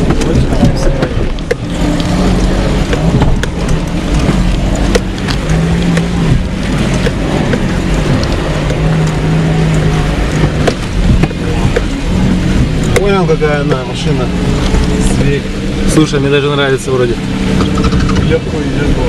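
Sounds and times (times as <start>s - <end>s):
vehicle knocks and rattles: 0.0s - 18.8s
car engine droning: 0.0s - 19.0s.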